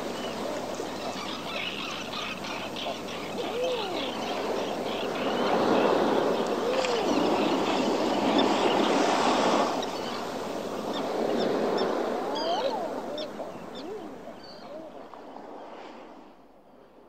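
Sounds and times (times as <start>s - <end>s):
surf washing against rocks: 0.0s - 16.3s
bird calls and chirps: 0.1s - 15.0s.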